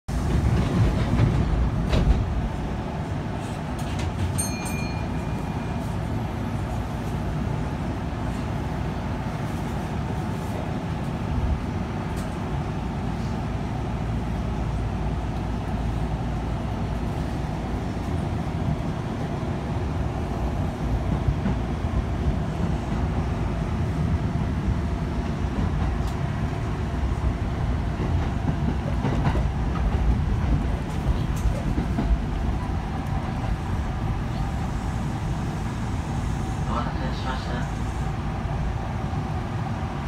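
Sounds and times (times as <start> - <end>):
train rumbling: 0.1 - 40.0.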